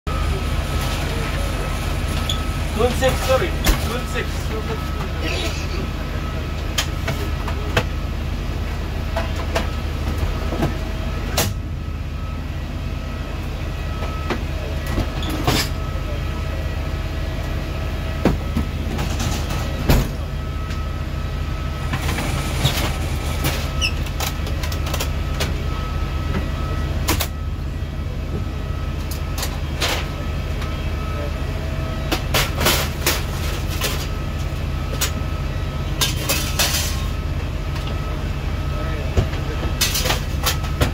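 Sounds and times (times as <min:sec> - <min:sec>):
machine drone with faint whine: 0:00.1 - 0:40.9.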